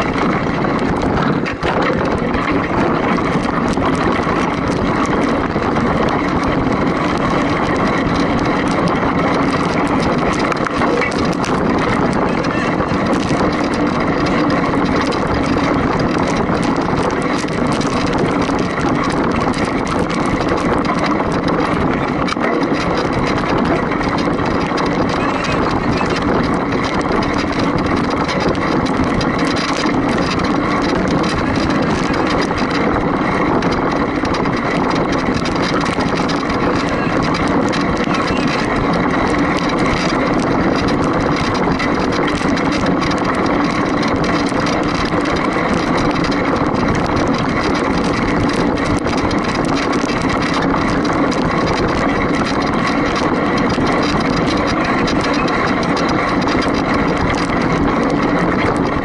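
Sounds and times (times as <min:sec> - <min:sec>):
rushing noise: 0:00.0 - 0:59.0.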